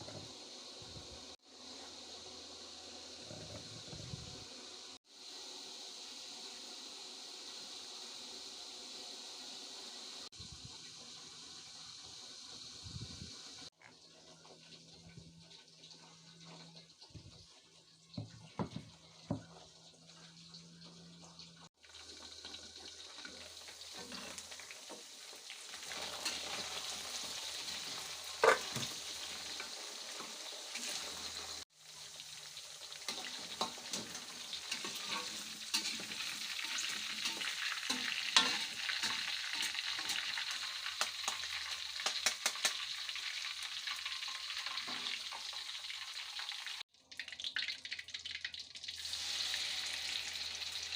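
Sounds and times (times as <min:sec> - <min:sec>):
food sizzling in hot oil: 0:00.0 - 0:50.9.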